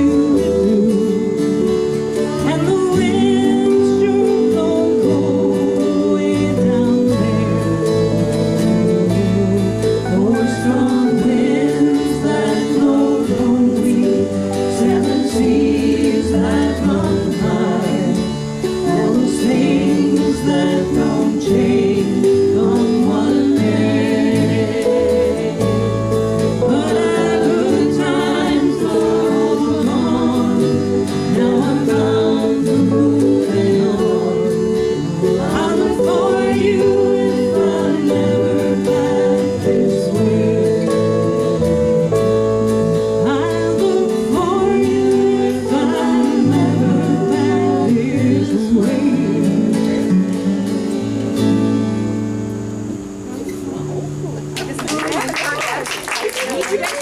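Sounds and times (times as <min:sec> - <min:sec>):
voices singing in harmony: 0:00.0 - 0:54.2
folk band playing: 0:00.0 - 0:57.0.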